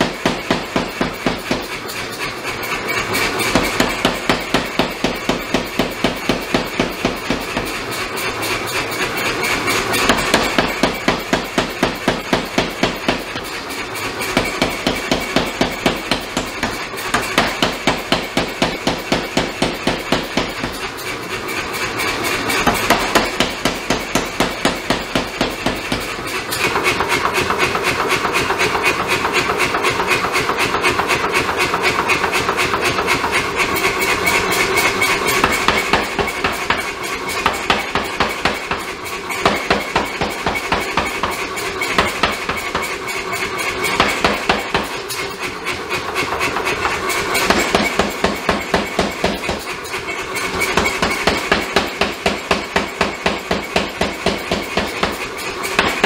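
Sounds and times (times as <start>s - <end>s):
power hammer pounding steel: 0.0s - 56.0s.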